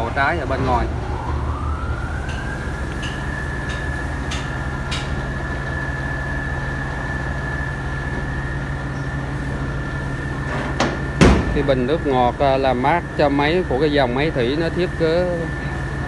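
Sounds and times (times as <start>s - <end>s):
diesel engine hum: 0.0s - 16.0s
high steady whine: 0.0s - 16.0s.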